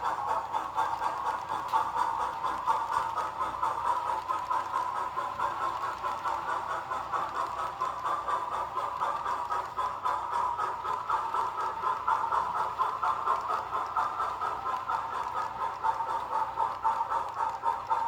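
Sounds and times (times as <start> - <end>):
model train whirring: 0.0 - 18.0.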